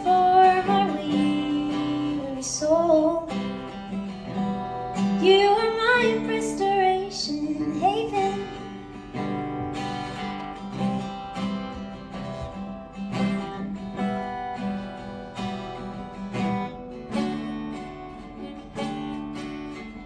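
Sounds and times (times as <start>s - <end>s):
acoustic guitar strummed chords: 0.0s - 20.0s.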